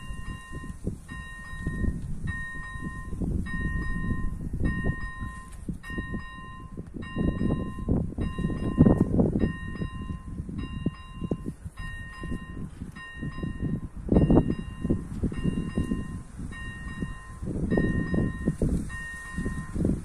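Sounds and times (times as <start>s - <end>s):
level crossing warning bell: 0.0s - 20.0s.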